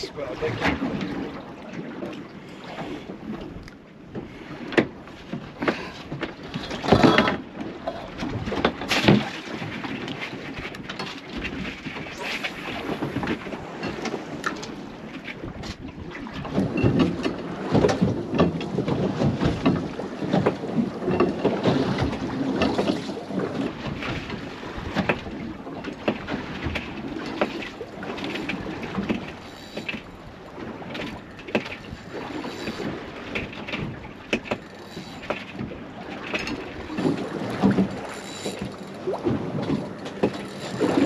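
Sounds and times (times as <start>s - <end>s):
water slapping boat hull: 0.0s - 41.0s.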